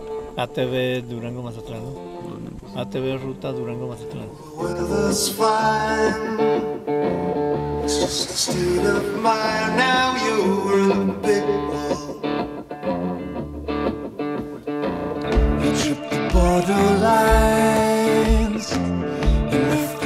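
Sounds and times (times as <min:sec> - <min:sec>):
guitar-led song: 0:00.0 - 0:20.0.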